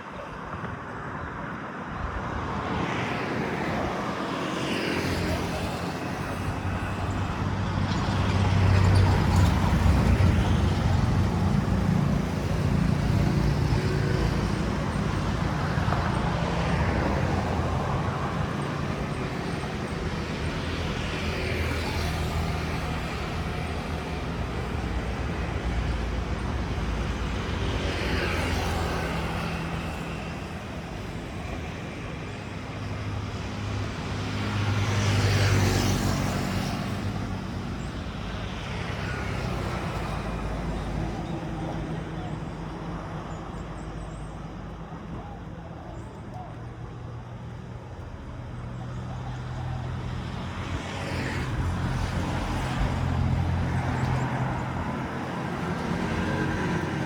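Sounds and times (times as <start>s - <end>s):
vehicles passing: 0.1s - 57.0s.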